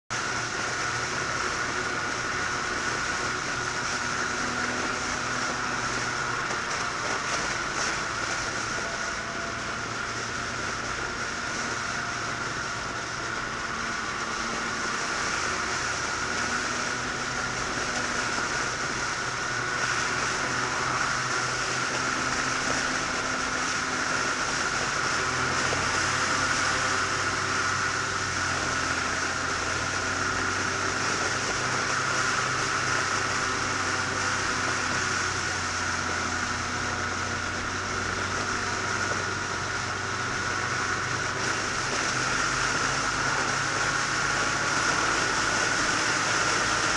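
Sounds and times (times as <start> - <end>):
motorcycle engine hum: 0.1 - 46.9.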